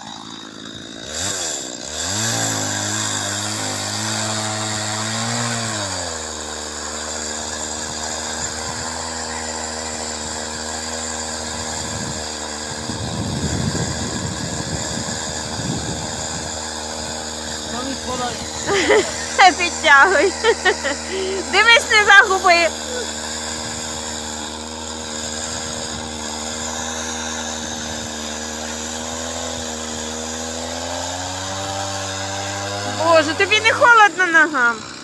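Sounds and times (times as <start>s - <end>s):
chainsaw cutting ice: 0.0s - 35.0s
rough rasping noise: 0.0s - 35.0s.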